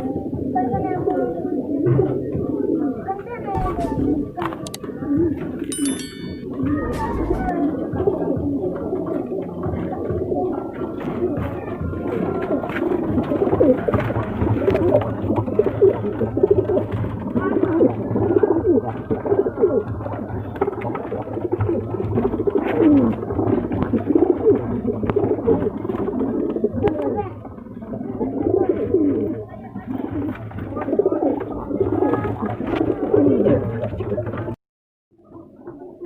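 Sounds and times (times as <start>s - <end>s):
pigeons cooing: 0.0s - 5.7s, 6.5s - 34.3s.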